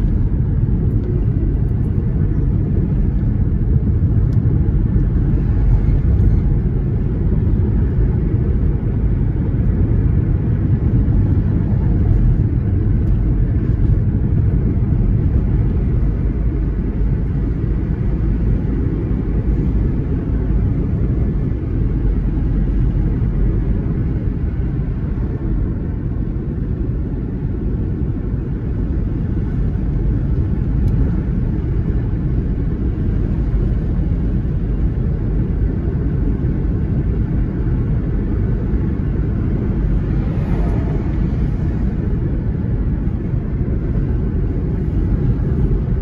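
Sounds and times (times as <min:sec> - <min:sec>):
car tyres and engine rumble: 0:00.0 - 0:46.0.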